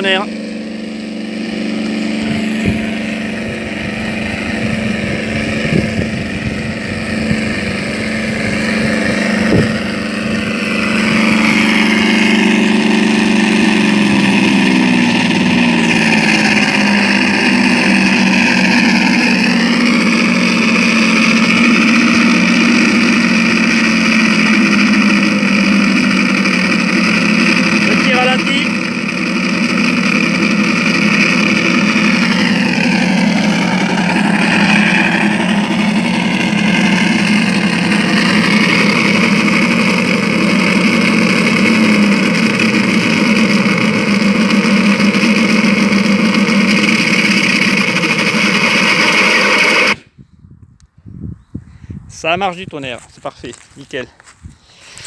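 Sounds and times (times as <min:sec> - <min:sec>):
simulated engine sound from speaker: 0:00.0 - 0:50.0.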